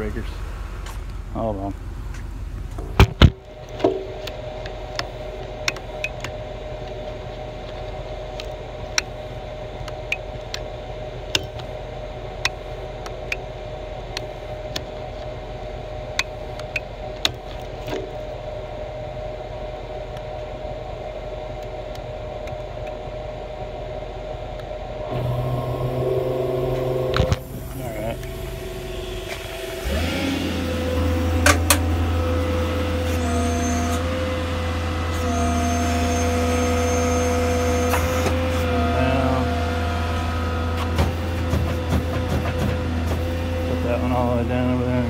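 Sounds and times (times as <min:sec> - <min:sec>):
muffled diesel engine idling: 0:00.0 - 0:45.0.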